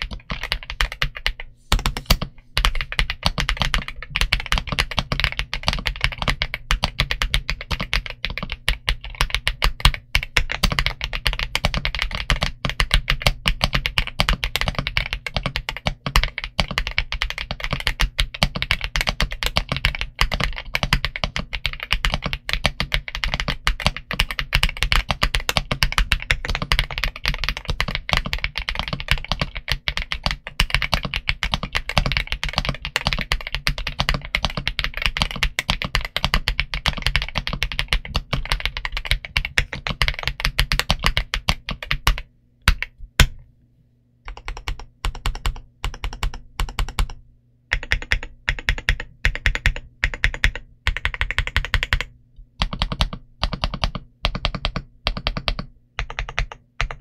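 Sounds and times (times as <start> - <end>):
fast typing on mechanical keyboard: 0.0 - 43.0, 44.3 - 57.0.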